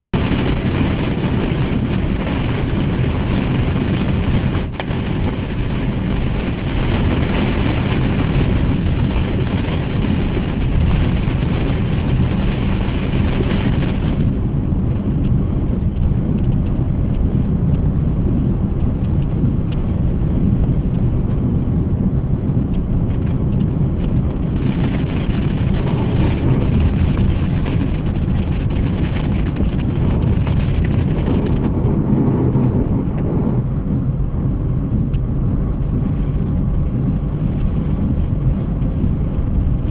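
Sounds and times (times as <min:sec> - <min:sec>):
car engine rumble: 0:00.1 - 0:39.9
heavy rain: 0:00.2 - 0:16.4, 0:23.1 - 0:39.9
tyres on wet road: 0:00.2 - 0:39.9.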